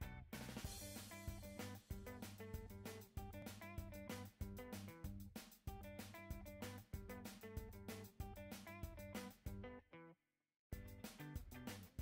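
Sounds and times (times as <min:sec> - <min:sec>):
background music with drums: 0:00.0 - 0:09.7, 0:10.8 - 0:12.0
bass line: 0:00.0 - 0:09.7, 0:10.8 - 0:12.0.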